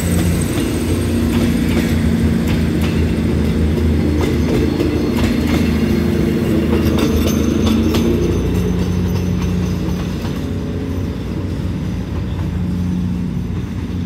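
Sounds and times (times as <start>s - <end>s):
train engine drone: 0.0s - 14.0s
wheels clicking over rail joints: 0.0s - 14.0s.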